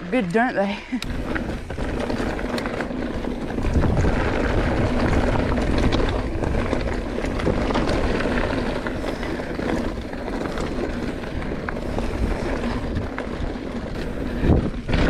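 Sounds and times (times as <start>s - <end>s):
bike rattling: 0.0s - 15.0s
tyres rumbling over dirt: 0.0s - 15.0s
wind buffeting microphone: 0.0s - 15.0s.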